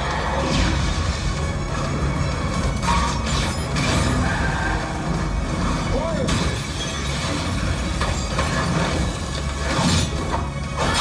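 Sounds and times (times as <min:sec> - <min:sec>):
film music and sound effects: 0:00.0 - 0:11.0.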